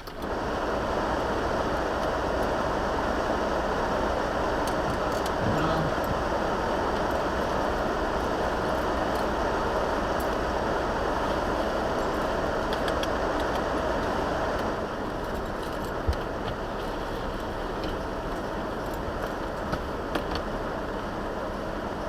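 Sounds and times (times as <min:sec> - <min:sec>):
truck road noise in rain: 0:00.0 - 0:22.0.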